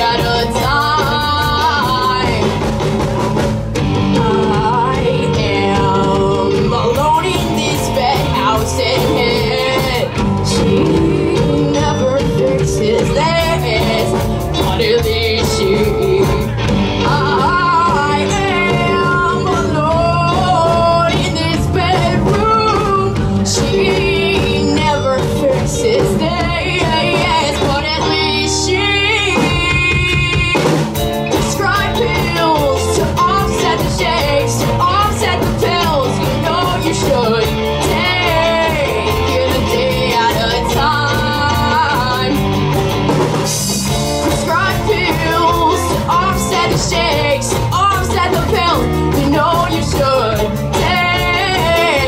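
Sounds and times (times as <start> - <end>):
rock band playing: 0.0 - 52.0.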